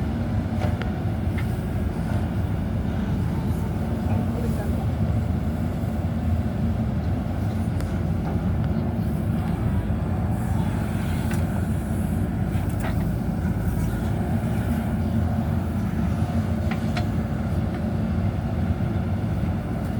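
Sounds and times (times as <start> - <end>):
diesel engine running under load: 0.0 - 19.9.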